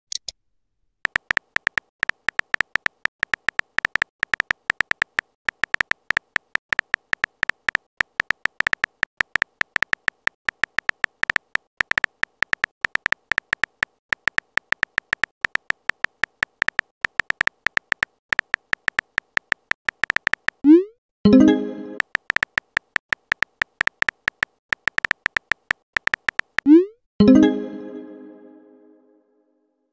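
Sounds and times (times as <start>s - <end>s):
keyboard typing clicks: 1.1s - 26.8s.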